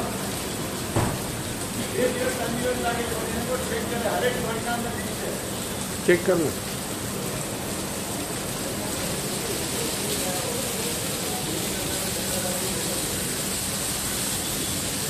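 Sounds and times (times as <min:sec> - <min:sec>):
fire hose water spraying: 0:00.0 - 0:15.0.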